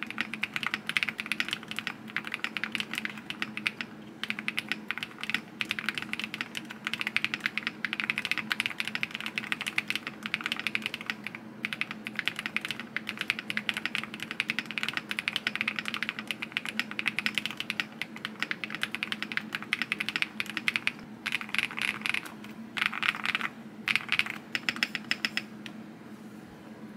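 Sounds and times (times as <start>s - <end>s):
mechanical keyboard typing: 0.0s - 25.5s.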